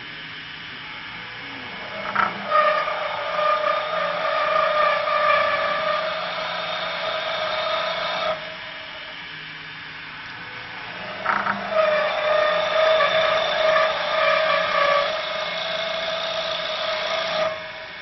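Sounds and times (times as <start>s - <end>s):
lathe cutting wood with whine: 0.0s - 18.0s
machine running quietly: 0.0s - 18.0s.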